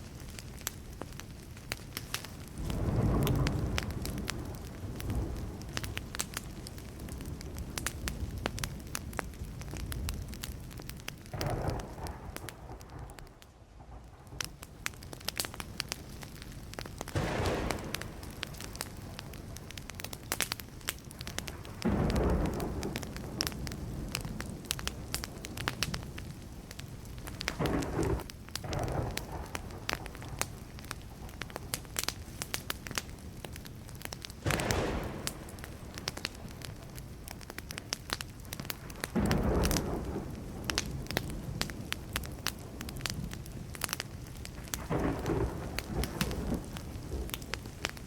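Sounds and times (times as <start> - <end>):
wood fire crackling and popping: 0.0 - 48.0
distant thunder rumbles: 2.5 - 10.4, 11.0 - 14.6, 15.5 - 20.2, 21.1 - 32.2, 32.8 - 37.8, 38.4 - 43.8, 44.6 - 48.0.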